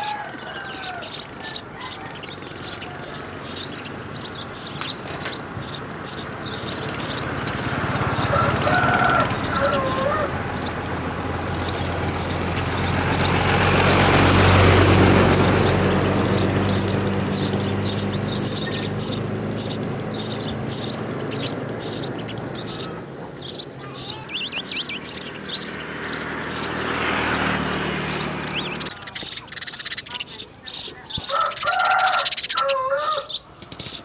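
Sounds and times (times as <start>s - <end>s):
low engine rumble: 0.0s - 31.2s
sparrows chirping: 0.0s - 34.0s.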